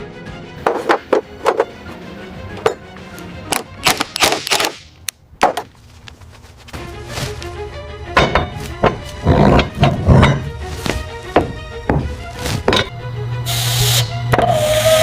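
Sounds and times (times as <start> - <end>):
background music: 0.0 - 5.4, 6.6 - 15.0.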